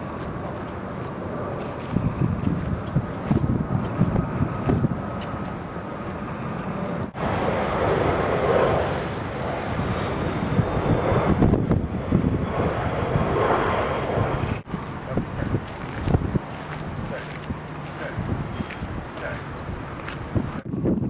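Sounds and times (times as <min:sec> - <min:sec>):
airplane passing overhead: 0:00.0 - 0:21.0.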